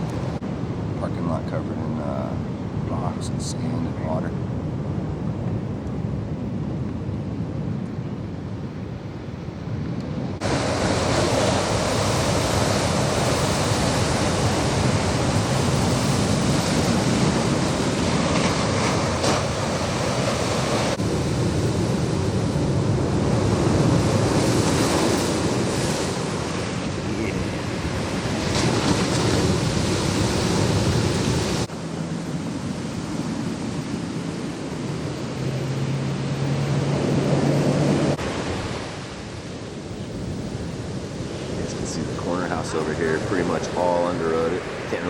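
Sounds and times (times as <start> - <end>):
ocean surf roaring: 0.0 - 45.0.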